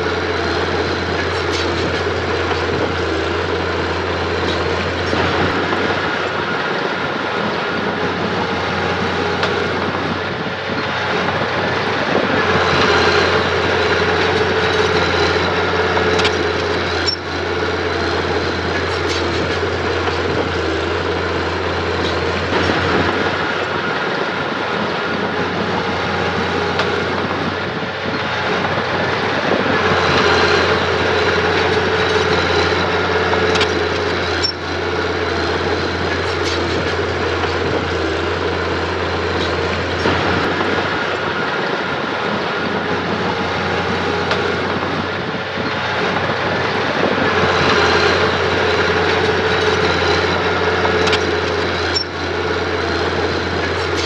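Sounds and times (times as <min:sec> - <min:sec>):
mini bulldozer engine running: 0:00.0 - 0:54.0
steel tracks clattering: 0:00.0 - 0:54.0.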